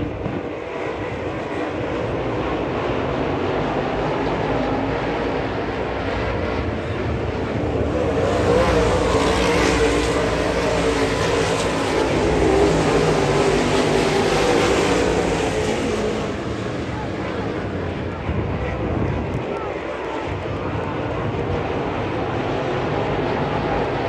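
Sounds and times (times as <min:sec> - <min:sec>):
race car engines at speed: 0:00.0 - 0:24.0.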